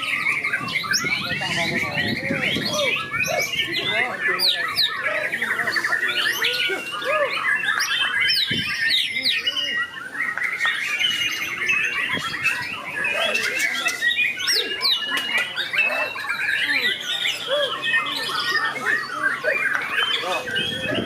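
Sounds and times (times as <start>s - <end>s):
faint people's voices: 0.0s - 21.0s
many birds singing: 0.0s - 21.0s.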